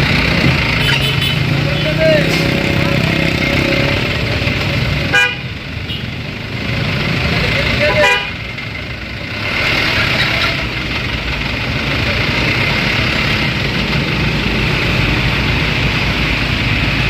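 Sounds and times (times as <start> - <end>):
dump truck engine running: 0.0 - 17.0.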